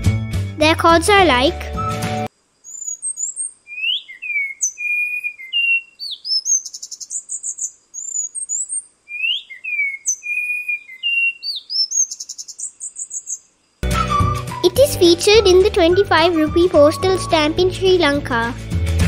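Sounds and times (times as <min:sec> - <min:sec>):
thrush singing whistles and trills: 0:01.7 - 0:17.6.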